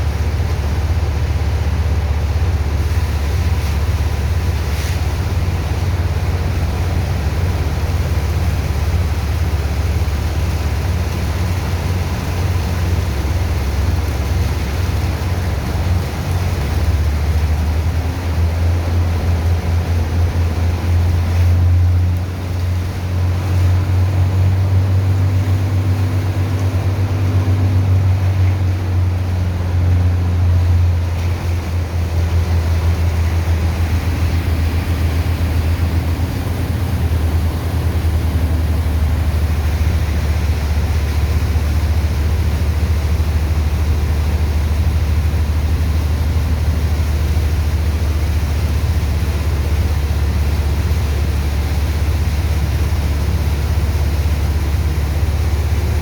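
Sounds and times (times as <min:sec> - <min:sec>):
pump engine droning: 0:00.0 - 0:56.0.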